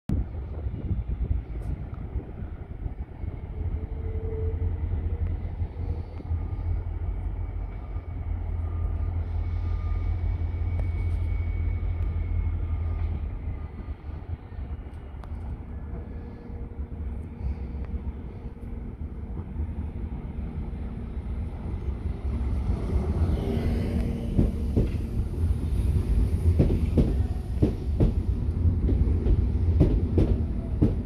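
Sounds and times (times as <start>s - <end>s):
train low hum: 0.1s - 31.0s
electric train whine: 0.2s - 31.0s.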